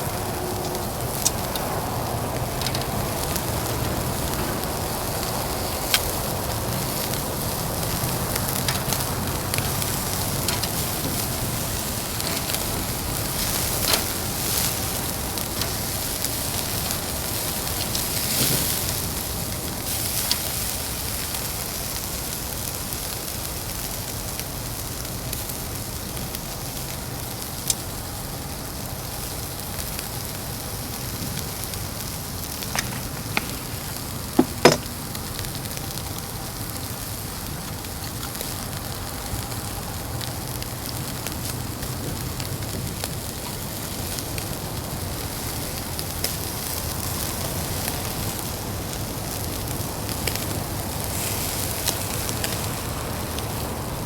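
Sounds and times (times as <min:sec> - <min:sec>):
fire hissing and popping: 0:00.0 - 0:54.0.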